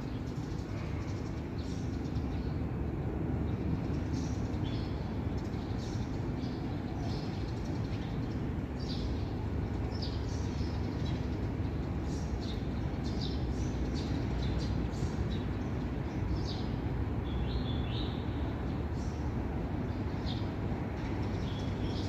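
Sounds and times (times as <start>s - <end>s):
birds chirping: 3.4s - 22.0s.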